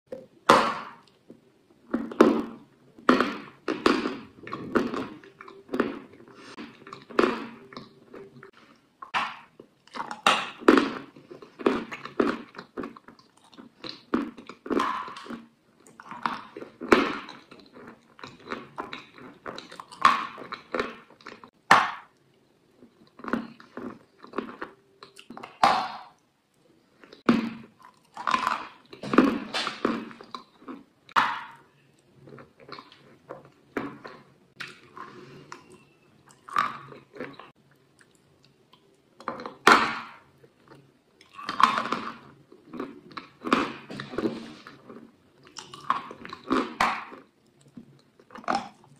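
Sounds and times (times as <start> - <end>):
person chewing crunchy food: 0.1 - 48.9.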